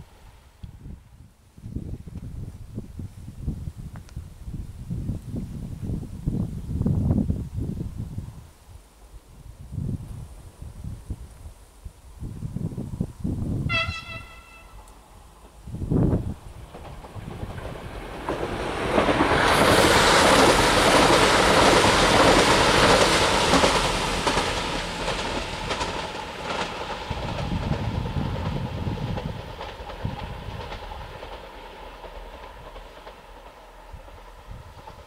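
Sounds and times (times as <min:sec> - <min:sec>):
train wheel and rail noise: 0:00.0 - 0:35.0.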